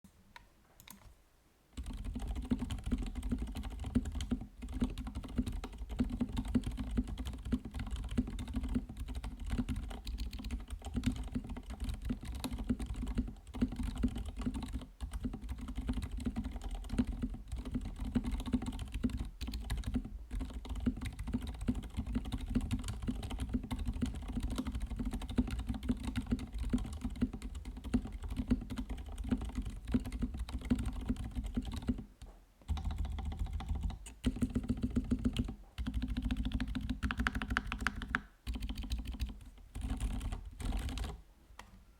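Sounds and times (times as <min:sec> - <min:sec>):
mechanical keyboard typing: 0:01.8 - 0:41.2.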